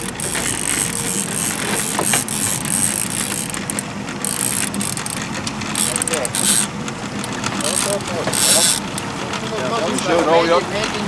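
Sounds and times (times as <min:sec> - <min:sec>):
fishing reel clicking whir: 0:00.0 - 0:09.1.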